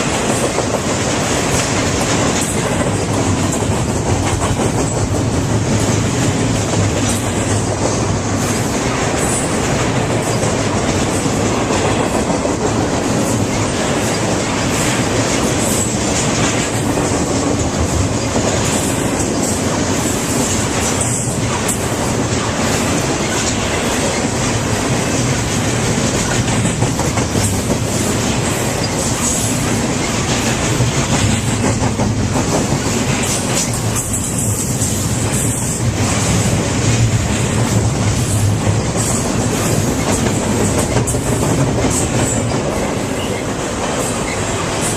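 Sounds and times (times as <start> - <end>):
train rolling on rails: 0.0 - 44.9.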